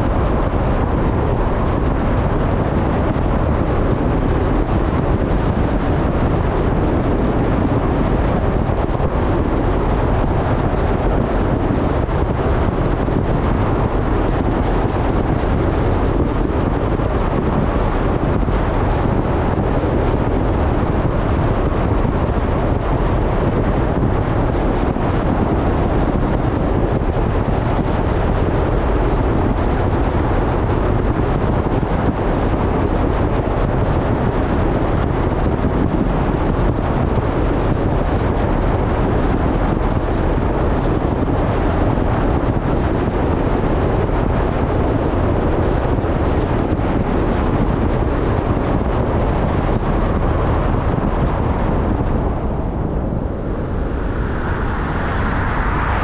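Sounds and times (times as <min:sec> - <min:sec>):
car tyre and wind noise: 0:00.0 - 0:56.0.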